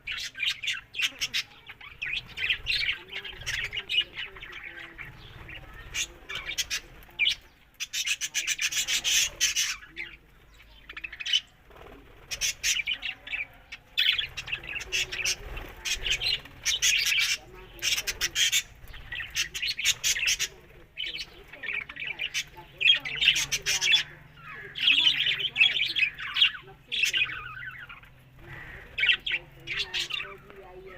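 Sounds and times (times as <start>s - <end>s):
budgerigar chattering: 0.0s - 10.1s, 12.3s - 30.9s.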